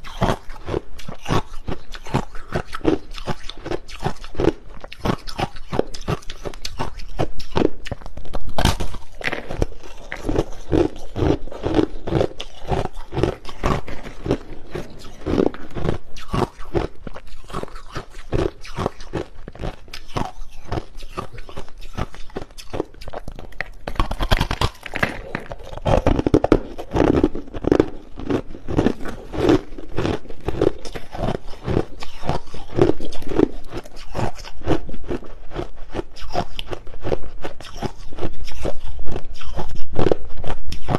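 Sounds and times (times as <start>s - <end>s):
person chewing crushed ice: 0.0s - 40.9s.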